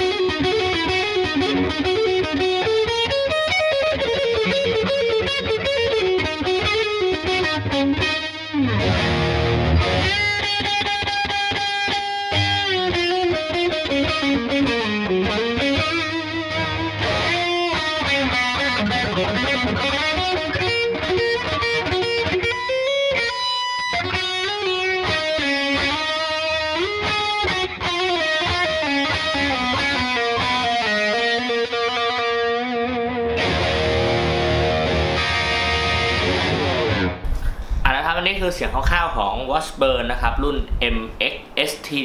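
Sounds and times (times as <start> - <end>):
distorted electric guitar lead: 0.0 - 41.8.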